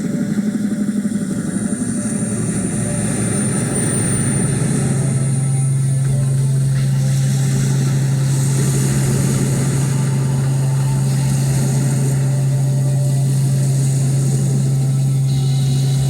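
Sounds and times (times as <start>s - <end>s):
amplified band low drone: 0.0s - 16.0s
dense noisy wash: 2.2s - 16.0s.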